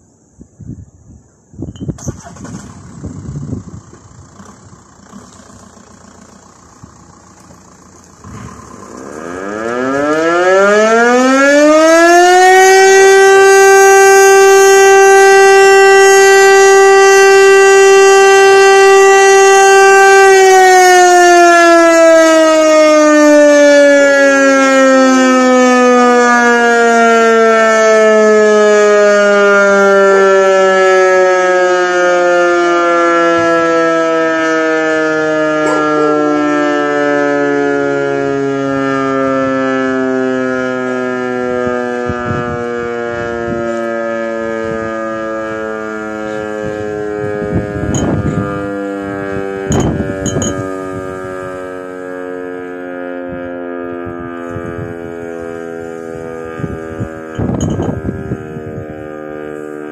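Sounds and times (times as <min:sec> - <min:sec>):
outdoor warning siren: 0:00.0 - 0:59.9.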